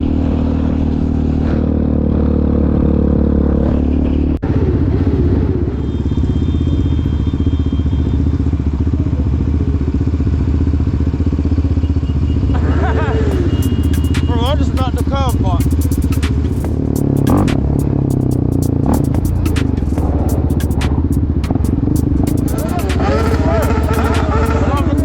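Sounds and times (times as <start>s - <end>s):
quad bike engines running: 0.0s - 25.0s.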